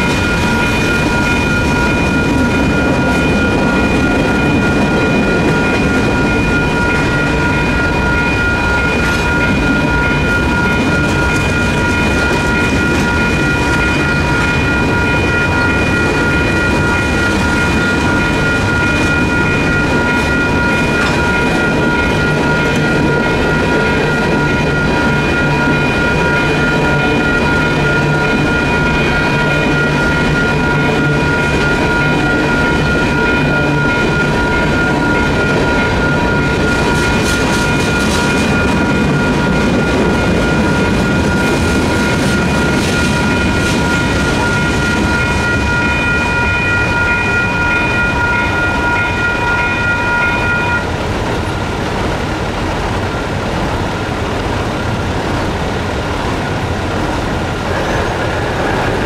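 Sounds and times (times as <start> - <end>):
crossing bells ringing: 0.0 - 59.0.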